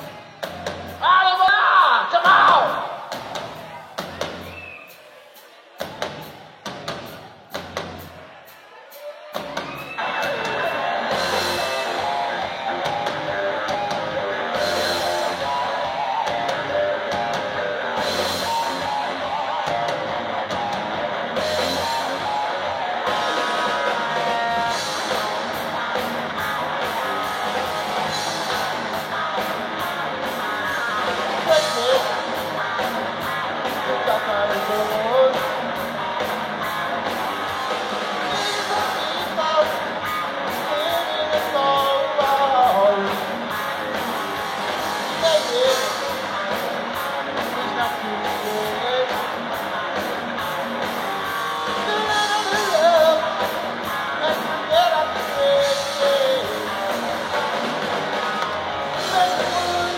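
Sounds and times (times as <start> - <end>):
rock music with guitar and drums: 0.0 - 59.9.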